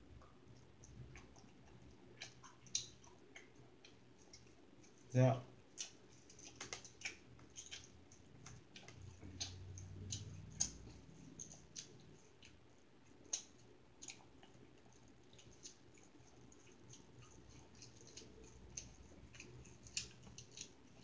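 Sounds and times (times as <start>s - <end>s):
person chewing: 0.1s - 21.0s.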